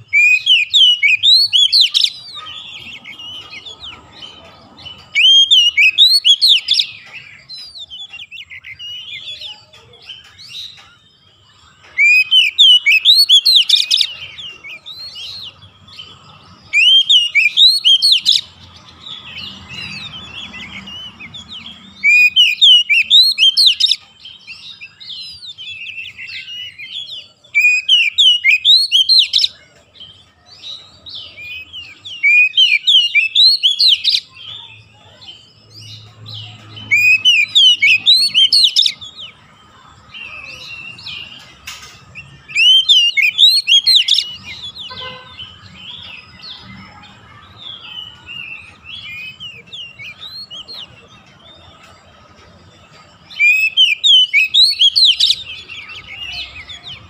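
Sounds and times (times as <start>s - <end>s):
bird whistling song: 0.0s - 39.4s, 40.1s - 51.7s, 53.1s - 57.0s
bird twittering: 0.0s - 51.9s, 52.9s - 57.0s.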